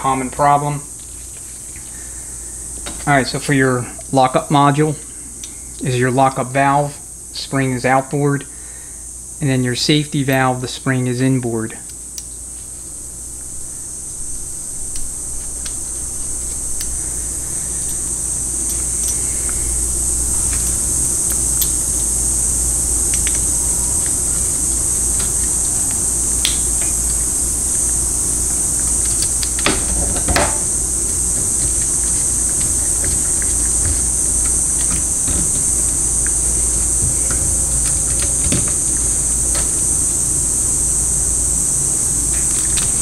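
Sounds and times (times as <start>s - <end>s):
fan-like hiss and hum: 0.0s - 43.0s.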